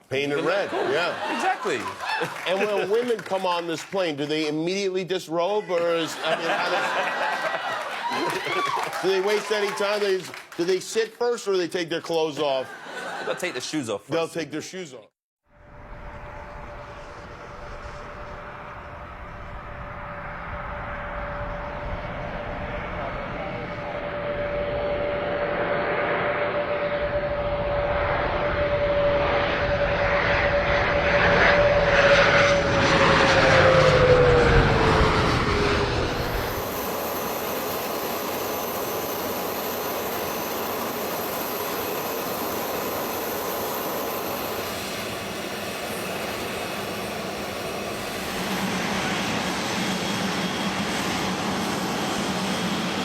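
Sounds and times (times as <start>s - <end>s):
jet engines whining: 0.0s - 13.7s, 15.6s - 53.0s.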